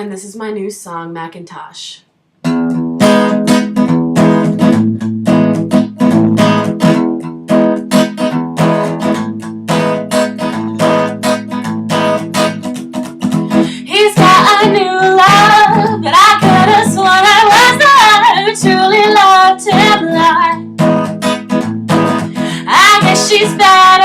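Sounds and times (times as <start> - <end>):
acoustic guitar strumming: 2.4 - 24.0.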